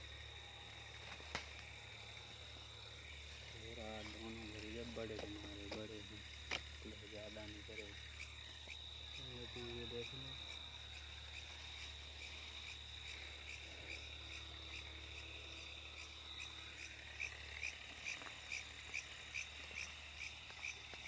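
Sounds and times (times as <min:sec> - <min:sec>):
cricket trilling: 0:00.0 - 0:21.0
insect chirps: 0:00.0 - 0:21.0.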